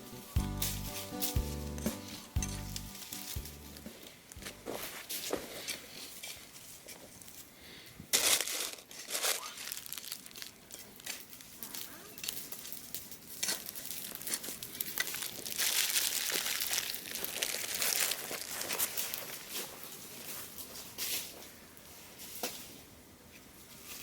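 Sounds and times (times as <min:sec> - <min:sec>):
rustling and crinkling handling noise: 0:00.0 - 0:24.0.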